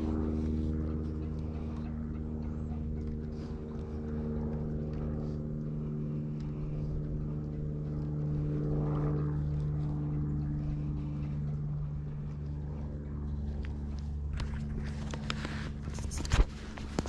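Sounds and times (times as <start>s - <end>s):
low motor drone: 0.0s - 17.0s.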